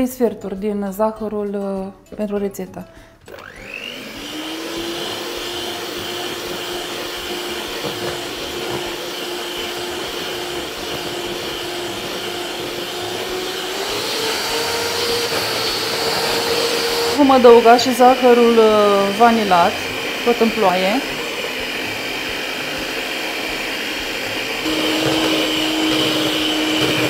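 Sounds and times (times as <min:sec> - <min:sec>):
electric hand mixer whirring: 0:03.2 - 0:27.0.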